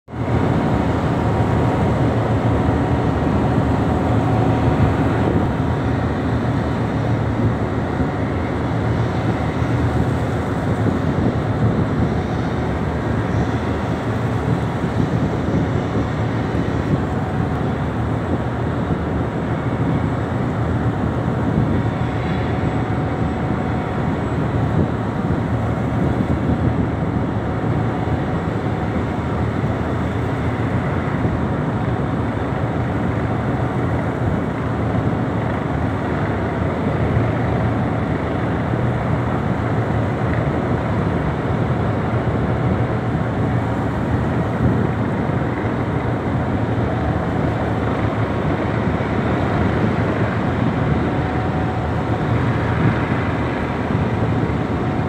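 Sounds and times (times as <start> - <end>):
boat engine running: 0.1 - 55.0.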